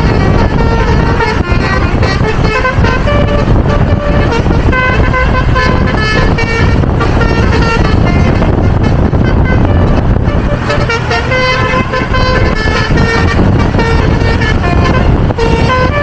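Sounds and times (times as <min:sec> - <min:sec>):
low rumble of moving bus: 0:00.0 - 0:16.0
musical bus horn: 0:00.0 - 0:16.0.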